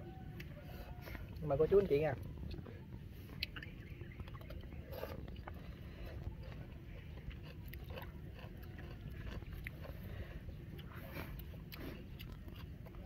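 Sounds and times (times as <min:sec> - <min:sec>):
person chewing: 0:00.3 - 0:13.0.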